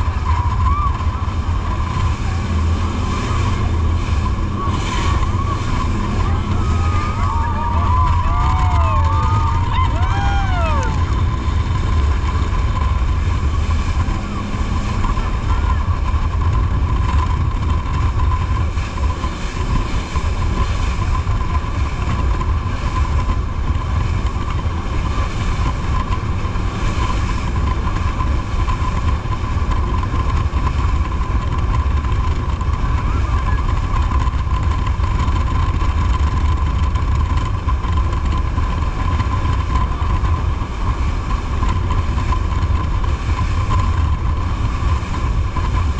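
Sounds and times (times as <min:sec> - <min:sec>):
high whine: 0:00.0 - 0:45.9
jet boat engine rumble: 0:00.0 - 0:45.9
water jet rushing: 0:00.0 - 0:45.9.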